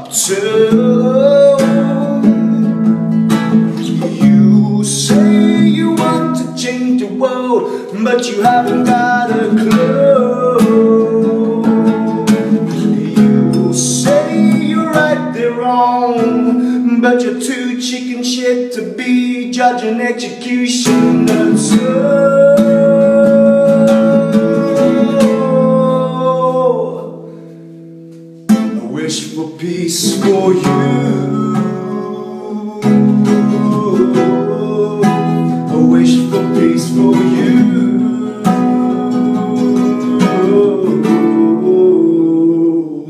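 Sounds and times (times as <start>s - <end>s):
man singing: 0.0s - 27.5s, 28.5s - 43.0s
strummed nylon-string guitar: 0.0s - 42.9s.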